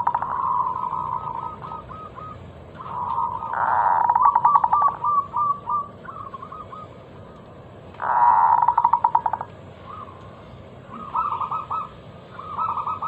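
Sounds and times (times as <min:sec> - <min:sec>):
dove cooing: 0:00.0 - 0:07.4, 0:08.0 - 0:10.3, 0:10.9 - 0:13.0.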